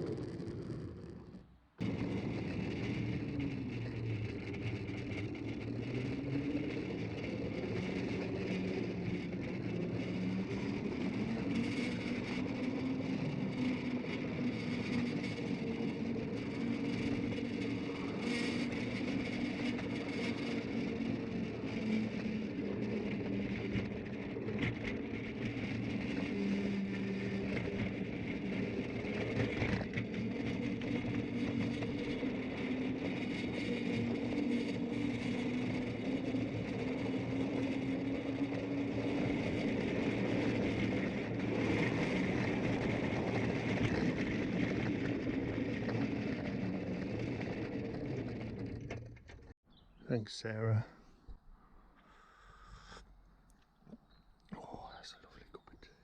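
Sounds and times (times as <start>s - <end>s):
miniature train motor whirring: 0.0s - 49.2s
wheels rumbling on rails: 0.0s - 49.9s.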